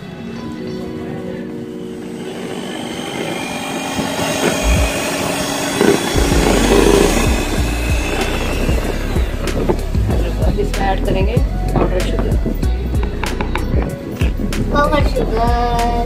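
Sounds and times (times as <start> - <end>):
electric hand mixer whirring: 0.0 - 16.0.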